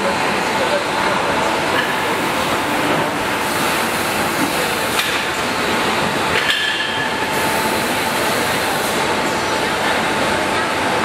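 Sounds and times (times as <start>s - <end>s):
din of running machinery: 0.0s - 11.0s.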